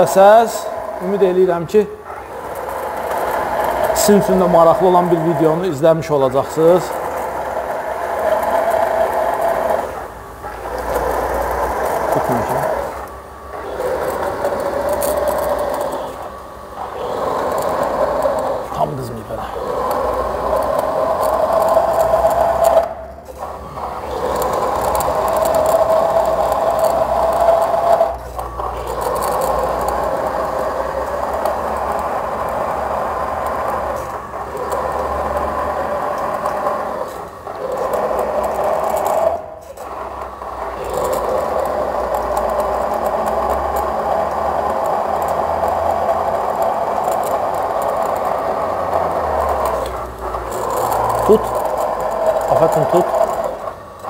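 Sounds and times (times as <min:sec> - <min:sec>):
grinding scraping machine whine: 0:00.0 - 0:54.0.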